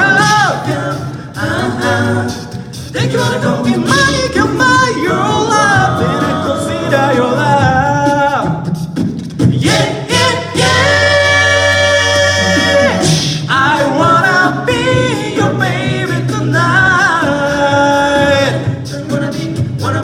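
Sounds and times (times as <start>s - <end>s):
vocal group singing in harmony: 0.0s - 20.0s.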